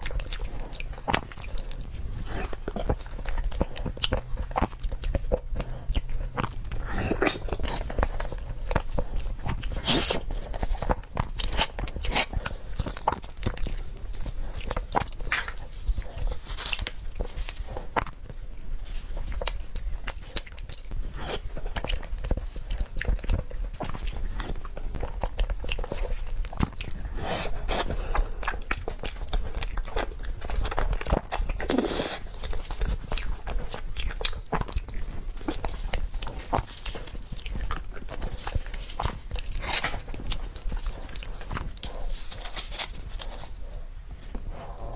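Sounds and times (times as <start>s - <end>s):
person chewing and biting: 0.0s - 44.9s.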